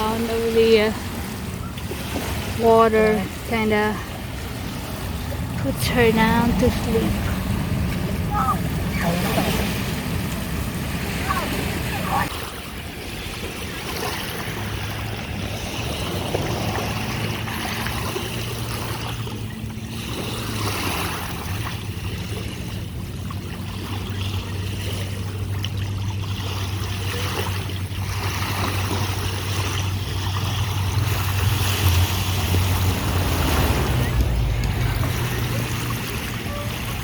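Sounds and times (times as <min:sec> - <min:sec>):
motorboat engine droning: 0:00.0 - 0:37.0
water washing at shore: 0:00.0 - 0:37.0.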